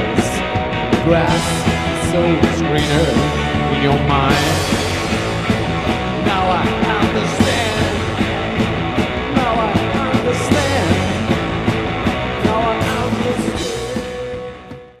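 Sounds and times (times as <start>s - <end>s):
person singing: 0.0s - 8.3s, 9.2s - 11.4s, 12.4s - 14.5s
drums: 0.0s - 15.0s
rock song: 0.0s - 15.0s.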